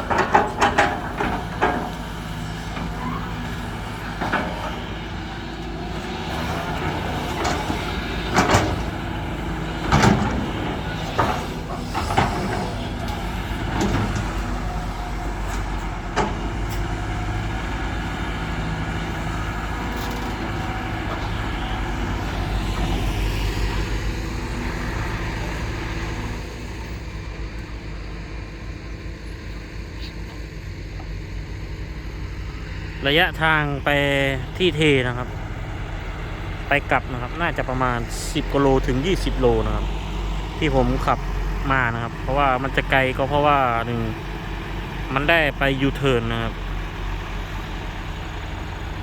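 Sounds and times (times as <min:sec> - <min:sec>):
vehicle engine drone: 0:00.0 - 0:49.0.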